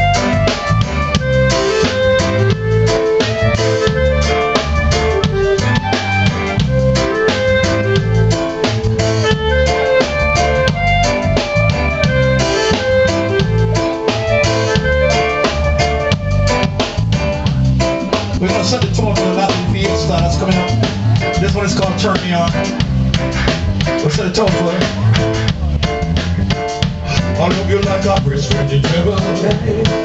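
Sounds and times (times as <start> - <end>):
drum kit beat: 0.0 - 30.0
electric bass guitar: 0.0 - 30.0
keyboard: 0.0 - 30.0.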